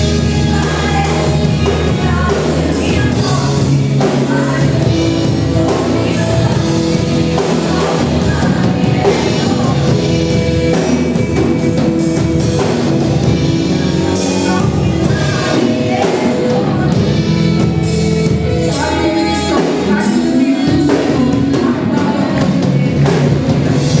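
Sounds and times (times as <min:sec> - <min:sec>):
singing: 0:00.0 - 0:11.0, 0:13.7 - 0:17.1, 0:18.6 - 0:24.0
drums beating steadily: 0:00.0 - 0:24.0
worship band playing: 0:00.0 - 0:24.0.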